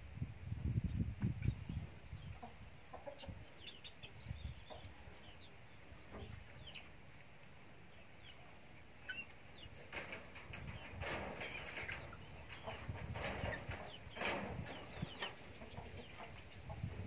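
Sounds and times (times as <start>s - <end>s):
chickens clucking and chirping: 0.2s - 17.0s.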